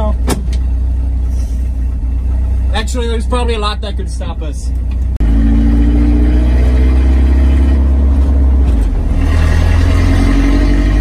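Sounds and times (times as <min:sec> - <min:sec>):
loud straight-piped exhaust droning: 0:00.0 - 0:11.0.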